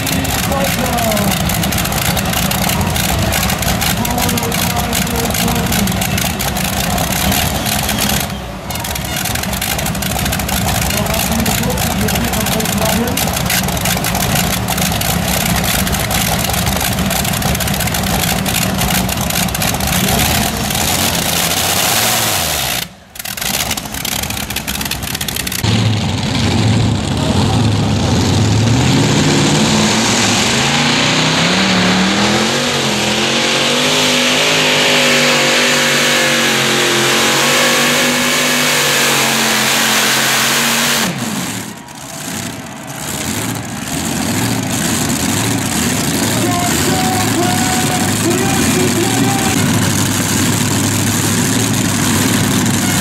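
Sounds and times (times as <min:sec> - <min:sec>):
tractor engines roaring: 0:00.0 - 0:53.0.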